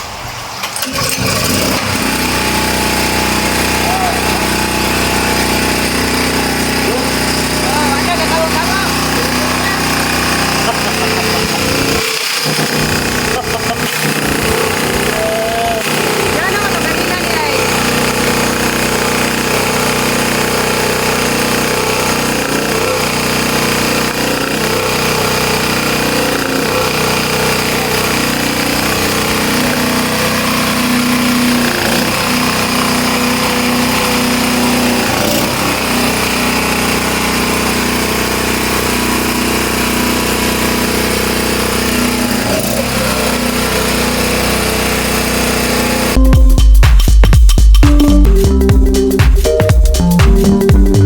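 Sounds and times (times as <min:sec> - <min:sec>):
generator engine running: 0:00.0 - 0:51.0.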